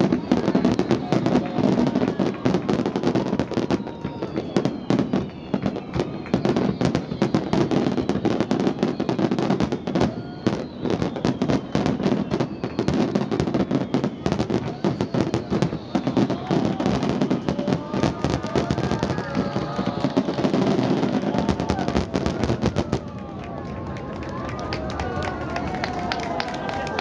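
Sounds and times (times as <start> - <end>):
firework whistles: 0.0 - 23.1
fireworks bursting and crackling: 0.0 - 27.0.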